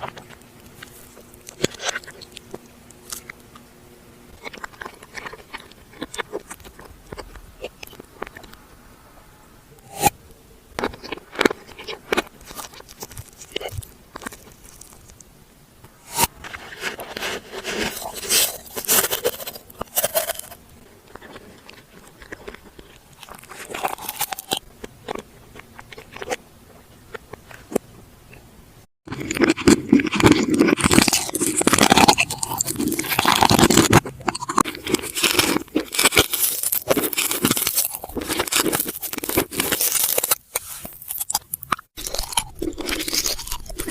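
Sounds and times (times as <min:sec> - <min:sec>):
crunchy chewing: 0:00.0 - 0:03.7, 0:04.3 - 0:08.6, 0:10.8 - 0:15.3, 0:16.0 - 0:28.5, 0:29.1 - 0:43.9.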